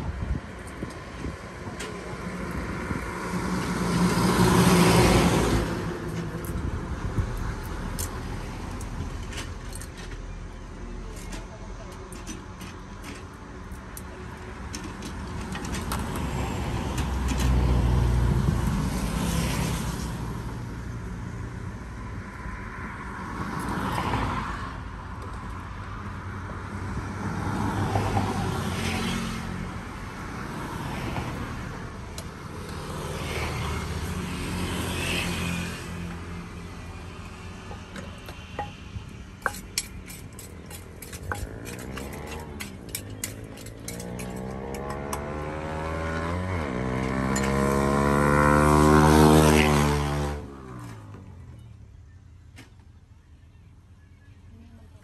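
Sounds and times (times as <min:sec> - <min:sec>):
road traffic rumble: 0:00.0 - 0:55.0
vehicles passing: 0:00.0 - 0:55.0.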